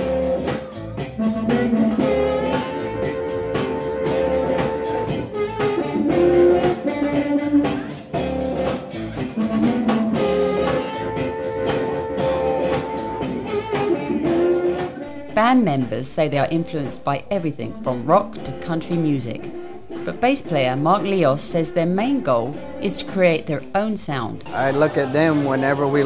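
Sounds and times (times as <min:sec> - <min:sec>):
electric blues band playing: 0:00.0 - 0:26.0.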